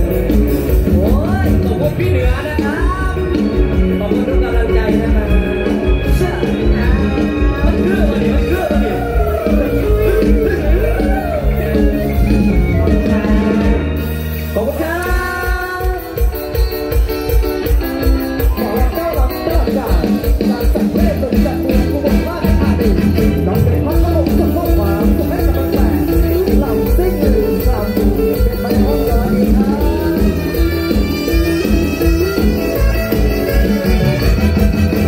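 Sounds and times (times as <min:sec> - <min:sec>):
driving bass beat: 0:00.0 - 0:35.0
live band music through sound system: 0:00.0 - 0:35.0.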